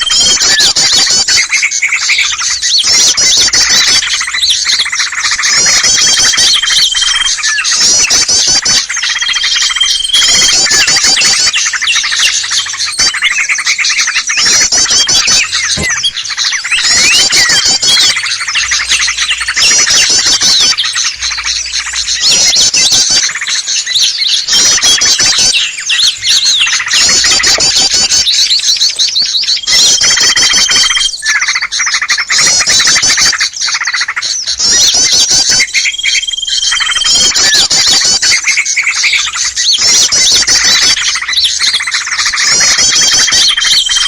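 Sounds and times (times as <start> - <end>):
rapid high bird trills: 0.0 - 44.0
songbirds chattering and calling: 0.0 - 44.0.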